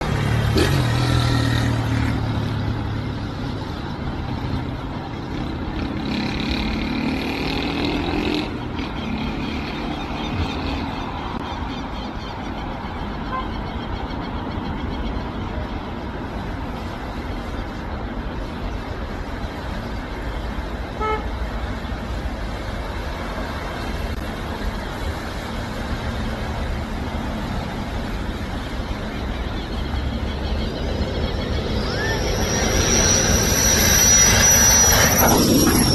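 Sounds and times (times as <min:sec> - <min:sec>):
vehicle engine: 0:00.0 - 0:13.5, 0:15.3 - 0:35.9.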